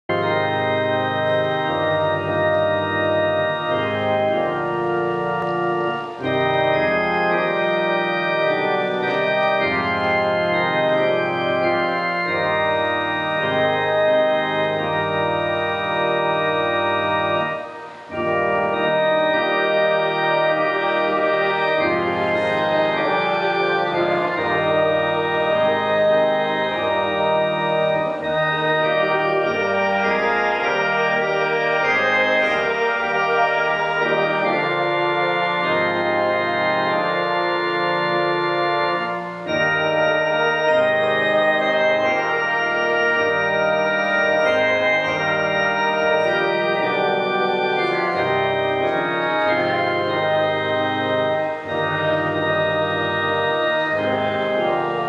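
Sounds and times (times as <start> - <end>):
church organ chords: 0.0 - 55.0.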